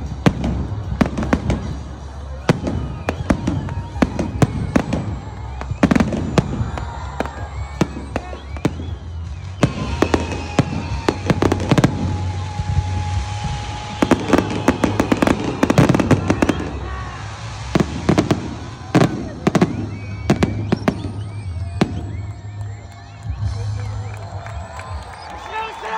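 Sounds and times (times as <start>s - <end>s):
crowd voices: 0.0s - 25.9s
firework crackling: 0.0s - 25.9s.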